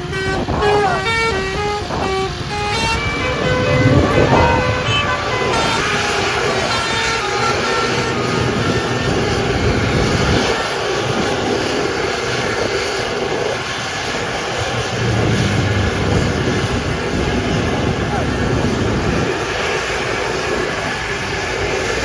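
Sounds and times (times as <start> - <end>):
buses passing: 0.0 - 22.0.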